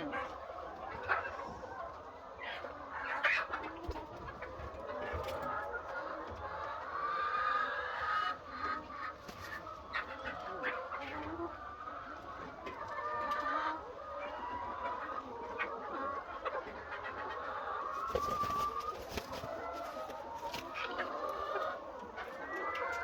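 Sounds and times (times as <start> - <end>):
hens clucking and calling: 0.0 - 23.0.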